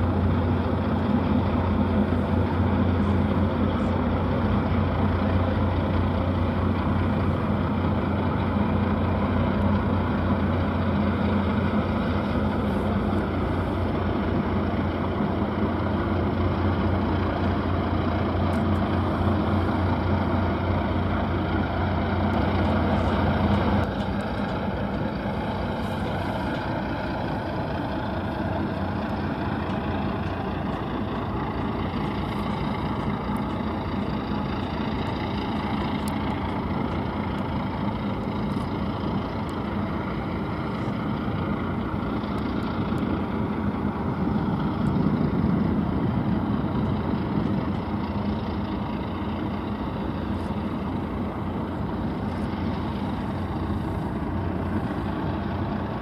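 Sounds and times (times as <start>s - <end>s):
ship engines droning: 0.0s - 56.0s.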